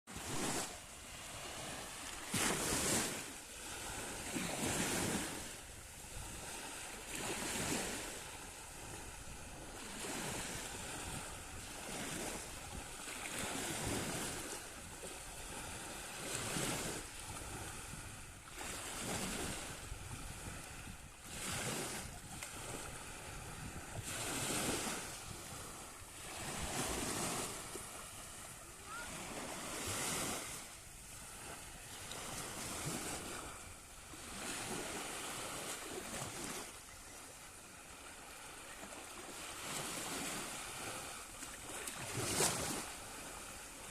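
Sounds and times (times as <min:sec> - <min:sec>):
wind on microphone: 0:00.1 - 0:37.0
waves breaking ashore: 0:00.1 - 0:43.9.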